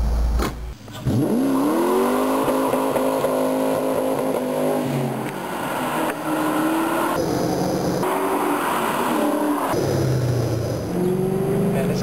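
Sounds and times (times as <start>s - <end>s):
car engine revving in burnout: 1.0s - 12.0s.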